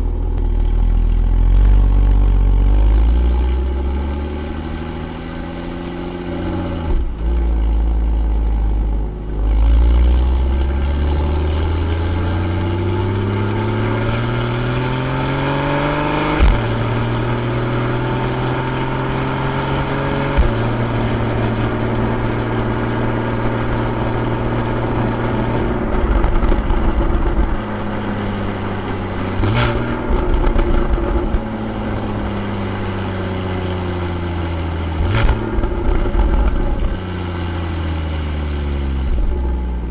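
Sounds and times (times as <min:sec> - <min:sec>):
car exhaust revving: 0:00.0 - 0:39.9
sharp exhaust crack: 0:00.0 - 0:39.9.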